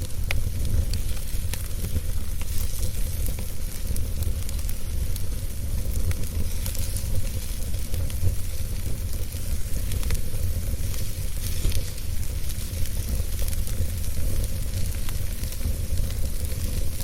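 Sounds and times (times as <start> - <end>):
fire crackling and popping: 0.0 - 17.0
fire rumbling and hissing: 0.0 - 17.0.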